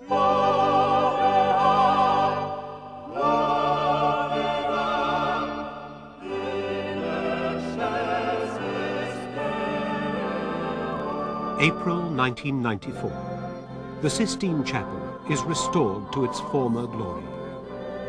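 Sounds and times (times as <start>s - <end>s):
choir singing sustained notes: 0.0s - 18.0s.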